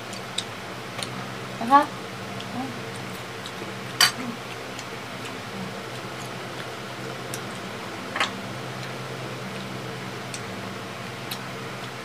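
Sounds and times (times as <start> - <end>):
clicks and taps of people eating: 0.0 - 1.3, 2.3 - 12.0
steady mechanical hum: 0.0 - 12.0.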